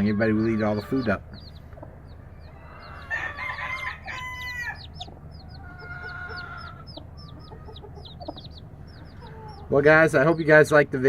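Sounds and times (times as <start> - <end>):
hen clucking: 0.0 - 10.8
chicks peeping: 0.0 - 11.0.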